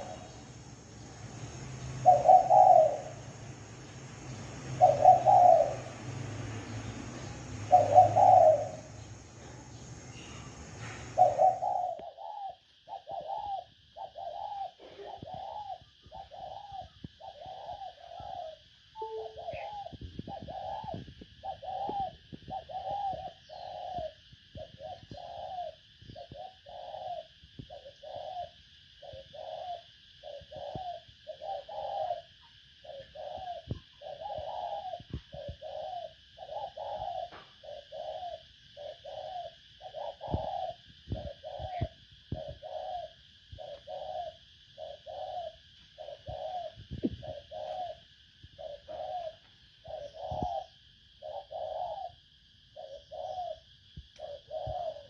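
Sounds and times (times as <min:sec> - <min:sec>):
dove cooing: 0:00.0 - 0:52.2, 0:52.8 - 0:55.0
faint steady hiss: 0:00.0 - 0:54.9.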